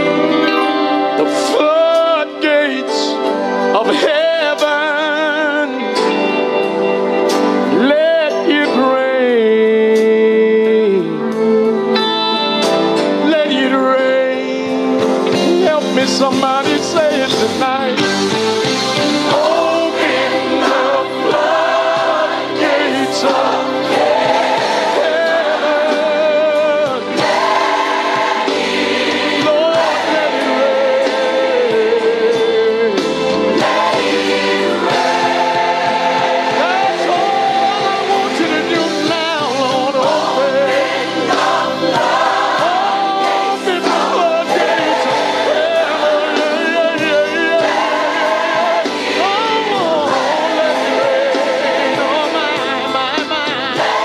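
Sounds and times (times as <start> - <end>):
choir singing: 0.0 - 8.5, 14.6 - 54.0
keyboard chords: 0.0 - 54.0.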